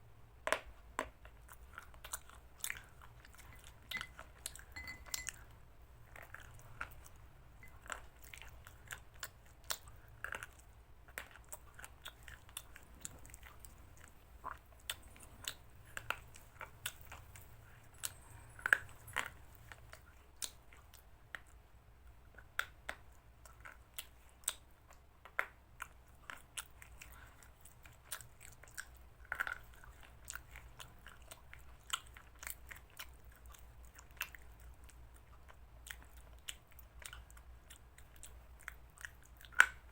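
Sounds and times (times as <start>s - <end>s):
person chewing food: 0.4s - 4.8s, 6.1s - 21.6s, 22.3s - 39.8s.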